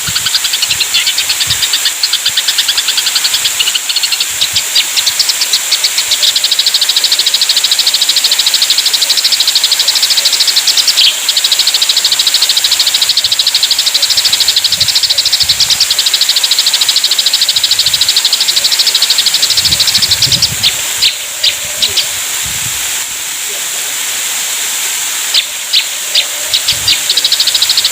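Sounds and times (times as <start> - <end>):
sparrows chirping sharply: 0.0 - 22.2, 25.3 - 27.9
steady high hiss: 0.0 - 27.9.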